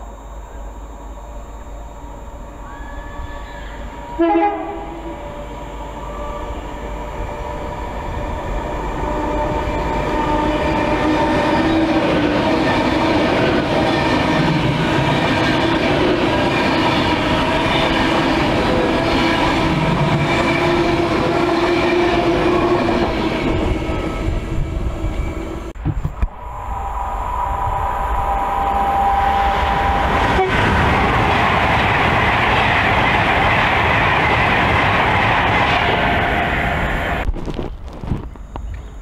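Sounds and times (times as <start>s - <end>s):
train wheels rushing on rail: 0.0s - 39.0s.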